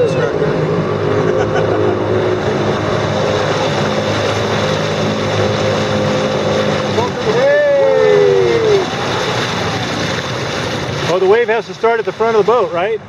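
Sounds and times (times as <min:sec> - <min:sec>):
outboard motor running: 0:00.0 - 0:13.0
water rushing: 0:00.0 - 0:13.0
wind: 0:00.0 - 0:13.0.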